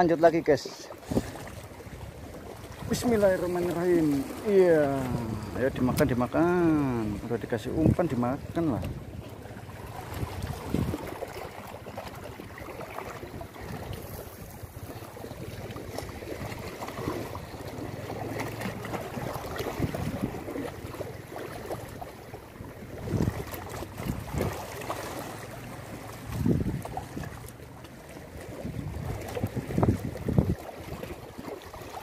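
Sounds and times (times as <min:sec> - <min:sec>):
water lapping against rocks: 0:00.0 - 0:32.0
wind buffeting microphone: 0:01.0 - 0:21.0, 0:22.6 - 0:24.7, 0:25.8 - 0:27.5, 0:28.5 - 0:31.2.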